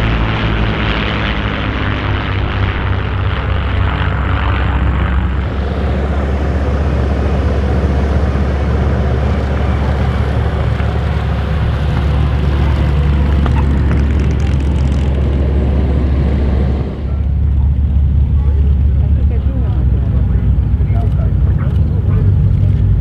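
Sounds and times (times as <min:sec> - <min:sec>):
propeller aircraft engine roaring: 0:00.0 - 0:23.0.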